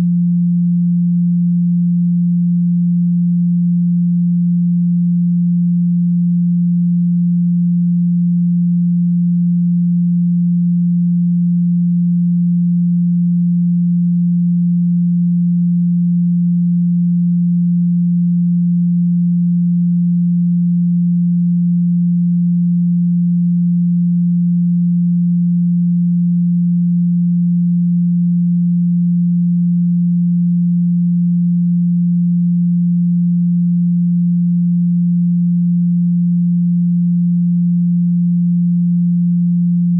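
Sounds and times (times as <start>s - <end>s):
low sine tone hum: 0.0s - 39.9s.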